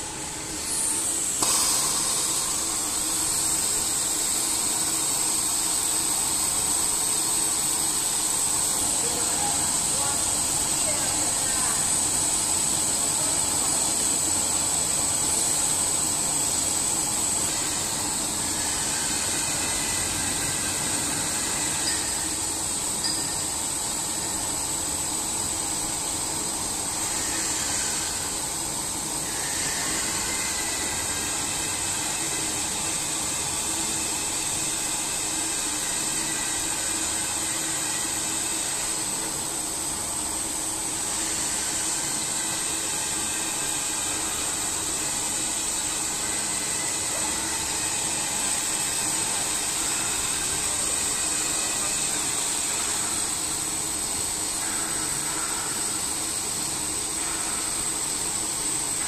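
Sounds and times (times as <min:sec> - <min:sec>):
milling machine running: 0:00.0 - 0:59.0.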